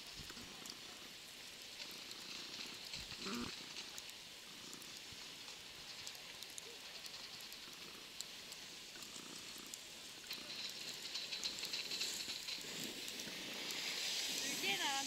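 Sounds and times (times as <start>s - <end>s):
hiss of precipitation: 0.0s - 15.0s.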